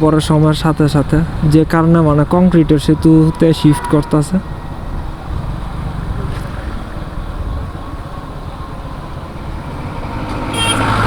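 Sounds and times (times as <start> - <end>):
motorcycle engine rumble: 0.0 - 11.0
wind buffeting microphone: 0.0 - 11.0.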